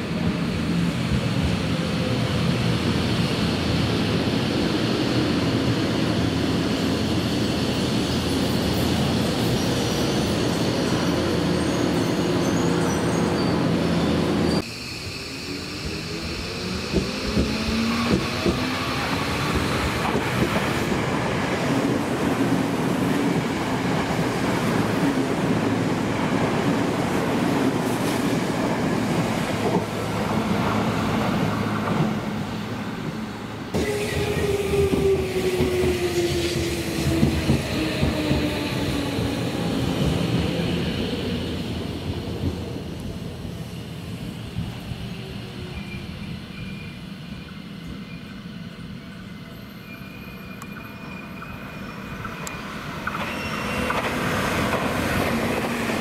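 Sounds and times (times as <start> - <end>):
train wheels on rails: 1.0 - 43.8, 49.6 - 56.0.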